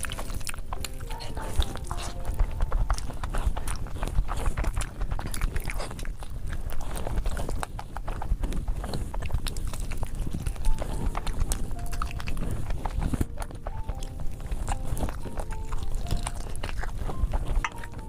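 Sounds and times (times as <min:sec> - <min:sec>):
wet chewing and lip-smacking: 0:00.0 - 0:18.0.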